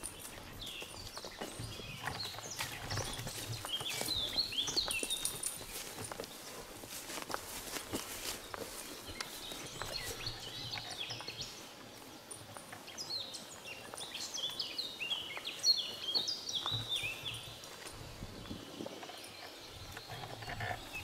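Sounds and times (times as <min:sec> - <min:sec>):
footsteps on forest floor: 0:00.0 - 0:21.0
songbird chirping: 0:00.0 - 0:21.0.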